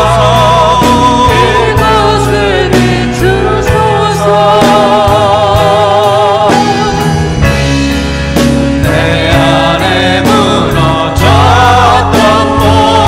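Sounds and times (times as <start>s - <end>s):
man singing with vibrato: 0.0s - 7.6s, 8.8s - 13.0s
other voices singing: 0.0s - 7.6s, 8.8s - 13.0s
band with bass and drums: 0.0s - 13.0s.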